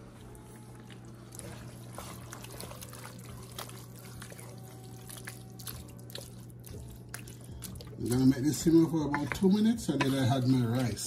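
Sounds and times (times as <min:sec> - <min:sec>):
steady low hum: 0:00.0 - 0:11.0
wooden spoon stirring in pot: 0:00.1 - 0:11.0.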